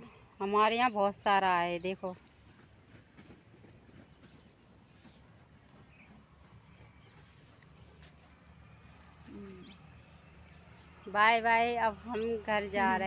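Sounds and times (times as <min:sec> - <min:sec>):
high-pitched insect trill: 0:00.0 - 0:13.0
insect chirping: 0:00.0 - 0:13.0.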